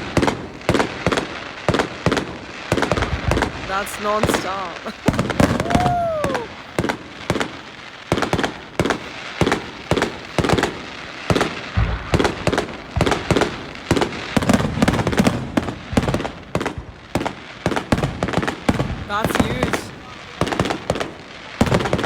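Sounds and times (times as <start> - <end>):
fireworks bangs and pops: 0.0 - 22.0
fireworks crackling: 0.0 - 22.0.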